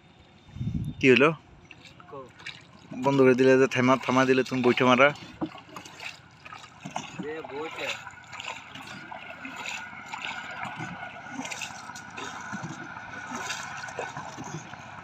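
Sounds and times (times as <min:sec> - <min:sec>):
water lapping against boat hull: 0:00.0 - 0:15.0
small splashes: 0:01.2 - 0:15.0.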